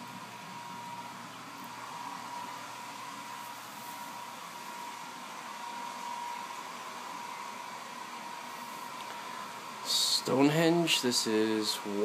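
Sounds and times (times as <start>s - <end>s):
steady whine: 0.0s - 12.0s.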